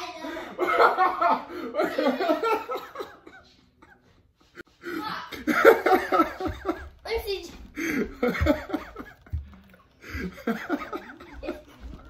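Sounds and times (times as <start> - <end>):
laughter: 0.4 - 4.6, 5.3 - 7.0, 7.8 - 12.0.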